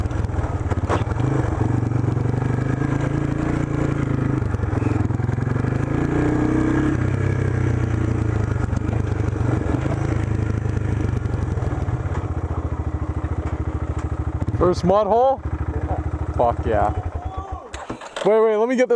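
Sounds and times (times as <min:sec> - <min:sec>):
small engine running at low revs: 0:00.0 - 0:18.2.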